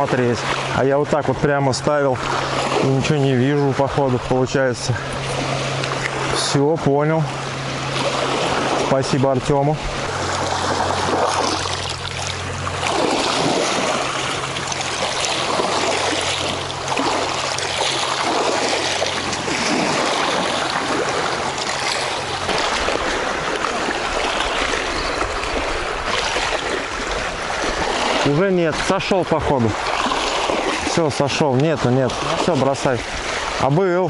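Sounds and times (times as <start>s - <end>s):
steady low hum: 0.0s - 33.8s
water lapping and splashing: 0.0s - 34.0s.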